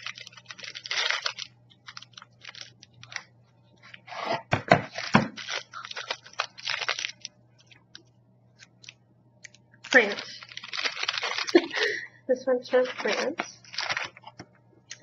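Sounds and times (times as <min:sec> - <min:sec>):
plastic packaging crinkling: 0:00.0 - 0:09.0, 0:09.8 - 0:12.1, 0:12.7 - 0:14.5.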